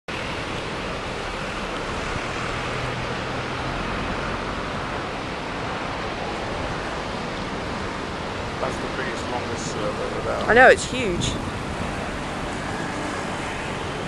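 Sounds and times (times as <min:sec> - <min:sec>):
heavy ocean surf: 0:00.1 - 0:14.0.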